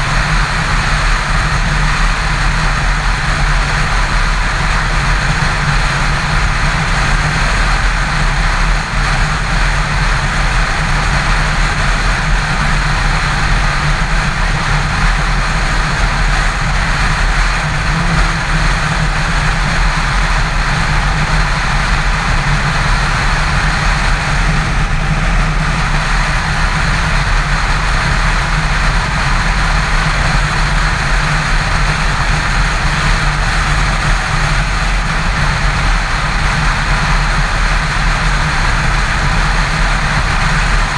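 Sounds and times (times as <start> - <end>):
motorcycle engine droning: 0.0 - 40.9
wind and road noise: 0.0 - 40.9.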